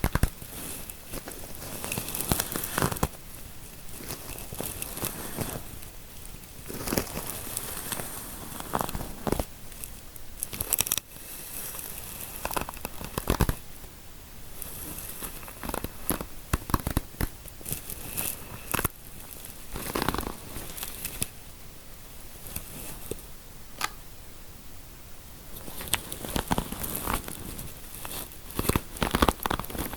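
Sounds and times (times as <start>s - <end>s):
fingers scratching through hair: 0.0s - 13.6s, 14.6s - 21.4s, 25.6s - 29.9s.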